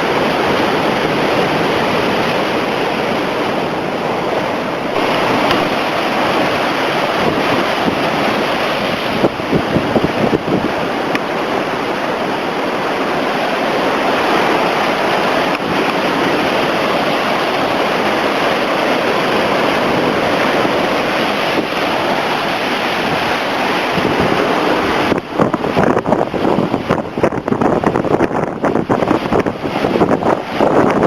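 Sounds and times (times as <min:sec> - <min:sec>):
heavy surf breaking: 0:00.0 - 0:31.0
wind buffeting microphone: 0:00.0 - 0:31.0.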